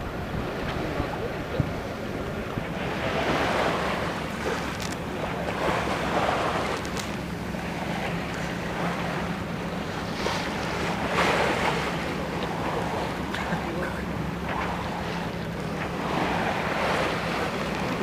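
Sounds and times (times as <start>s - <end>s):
steady low hum: 0.0s - 18.0s
water splashing along hull: 0.0s - 18.0s
wind buffeting microphone: 0.0s - 18.0s.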